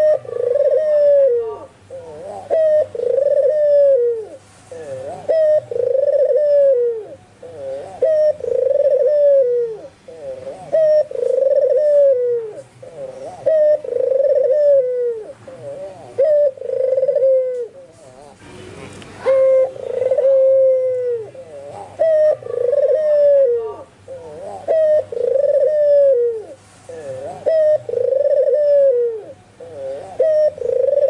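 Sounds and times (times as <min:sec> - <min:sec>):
dove cooing: 0:00.0 - 0:18.4, 0:19.2 - 0:31.0.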